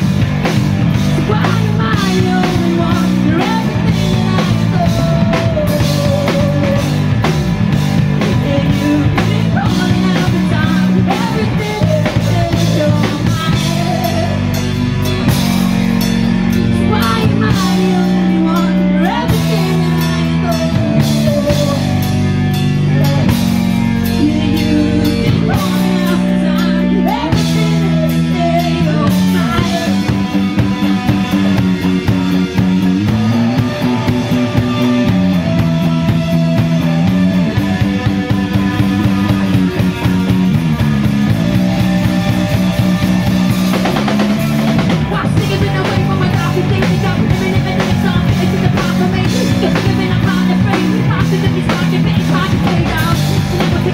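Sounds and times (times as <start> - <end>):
person singing: 0.0 - 15.4, 16.4 - 40.6, 41.2 - 53.9
bass guitar: 0.0 - 53.9
drum kit: 0.0 - 53.9
electric guitar: 0.0 - 53.9.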